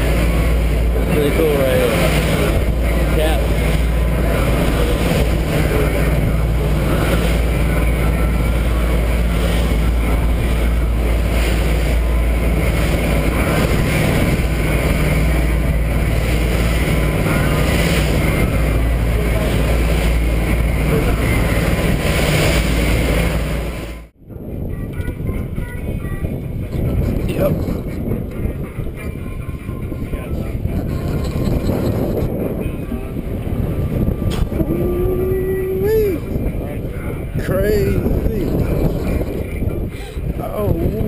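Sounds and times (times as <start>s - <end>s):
boat engines humming: 0.0s - 41.0s
water rushing along hull: 0.0s - 41.0s
wind: 0.0s - 41.0s.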